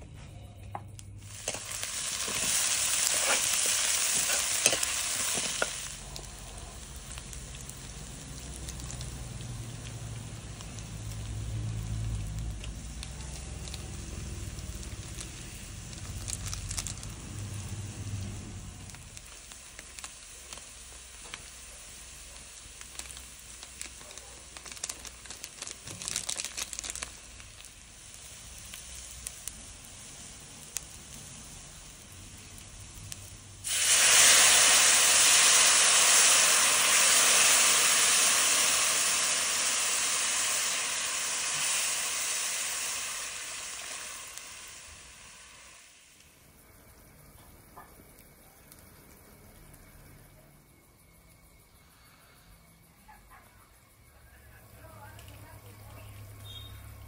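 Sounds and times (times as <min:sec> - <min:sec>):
food sizzling in hot oil: 0:01.0 - 0:50.1, 0:54.8 - 0:57.0.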